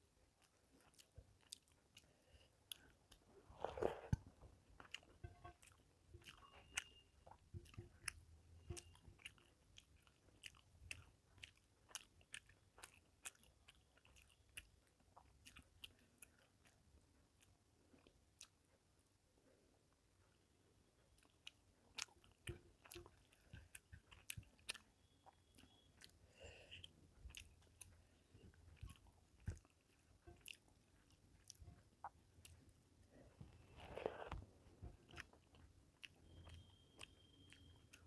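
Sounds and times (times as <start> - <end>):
person chewing: 0.3 - 18.7, 20.3 - 38.0.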